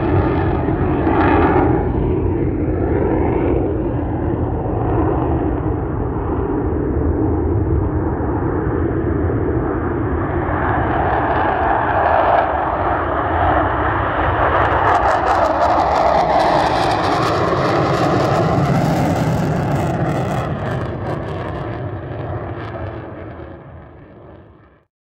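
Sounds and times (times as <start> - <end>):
fighter jet taking off: 0.0 - 24.8.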